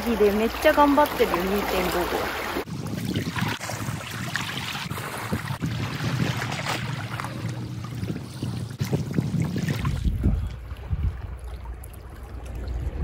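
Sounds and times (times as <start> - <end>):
sea washing against rocks: 0.0 - 13.0
wind buffeting microphone: 2.5 - 13.0.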